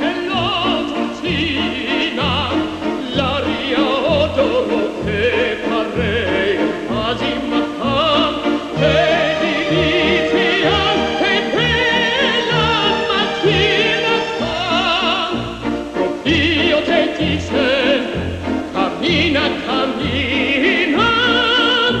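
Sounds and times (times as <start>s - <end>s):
operatic singing with vibrato: 0.0s - 22.0s
orchestral accompaniment: 0.0s - 22.0s.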